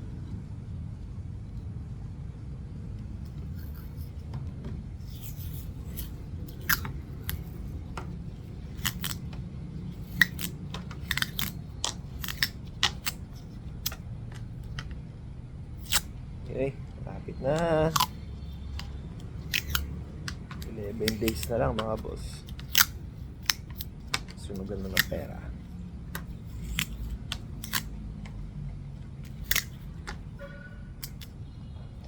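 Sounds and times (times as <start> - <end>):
steady low rumble: 0.0 - 32.0
adhesive tape crackling: 5.0 - 14.9, 15.7 - 31.6.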